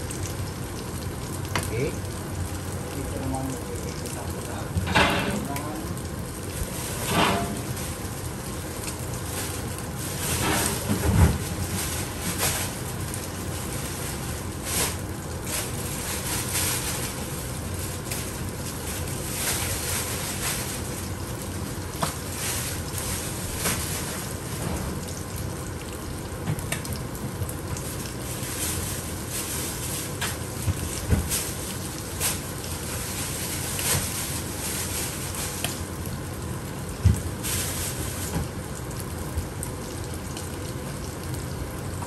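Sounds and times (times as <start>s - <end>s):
fish frying in oil: 0.0s - 42.0s.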